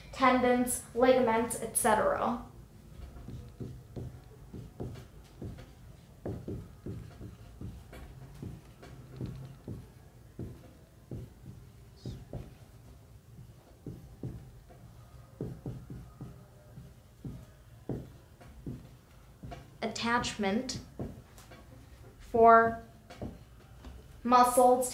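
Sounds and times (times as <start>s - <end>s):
marker writing on whiteboard: 1.5s - 24.6s.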